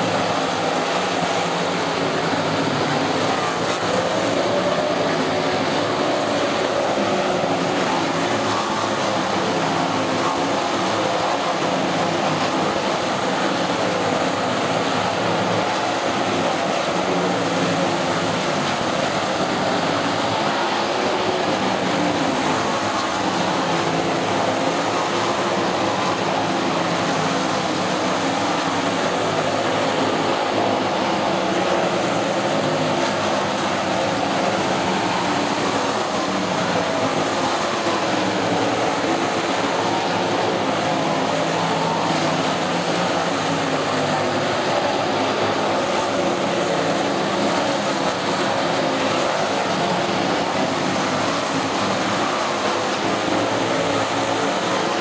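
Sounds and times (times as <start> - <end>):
sprint car engines racing: 0.0 - 55.0.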